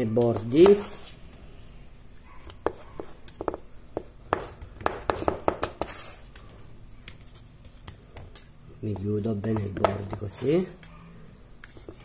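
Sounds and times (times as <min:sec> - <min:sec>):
hands pressing dough: 0:00.0 - 0:01.4, 0:02.2 - 0:12.0.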